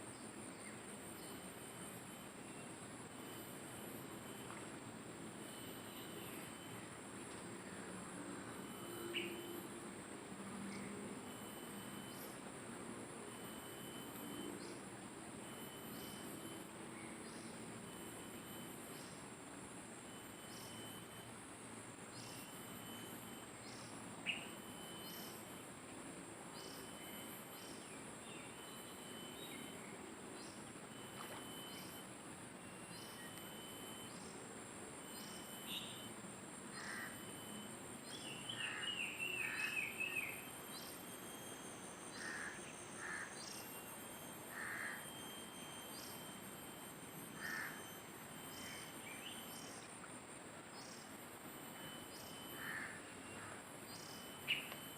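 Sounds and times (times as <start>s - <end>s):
insects droning: 0.0s - 54.9s
short insect chirp: 0.0s - 54.9s.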